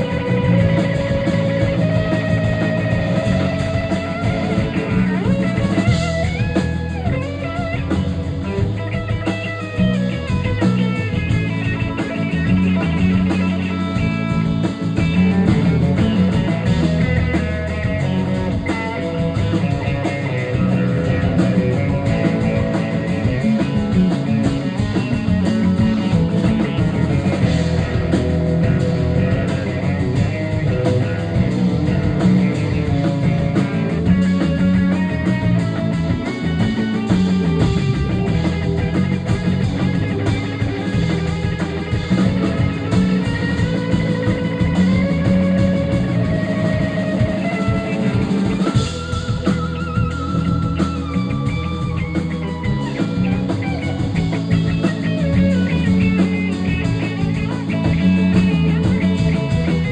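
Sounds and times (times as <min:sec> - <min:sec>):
electric guitar solo: 0:00.0 - 0:59.9
rock band playing: 0:00.0 - 0:59.9.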